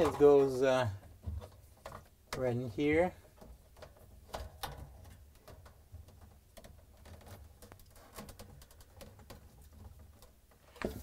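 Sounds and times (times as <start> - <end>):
small clicks and rustles: 0.0 - 11.0.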